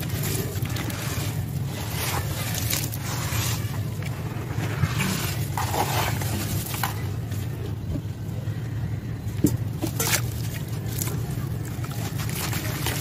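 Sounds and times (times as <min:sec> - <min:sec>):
wet cement crumbled by hand: 0:00.0 - 0:08.0, 0:09.3 - 0:13.0
steady low rumble: 0:00.0 - 0:13.0.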